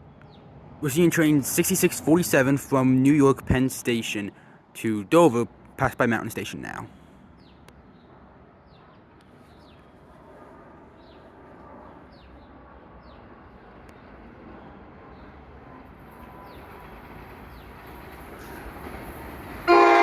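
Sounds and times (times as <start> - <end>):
train rumble: 0.6 - 6.9, 8.1 - 20.0.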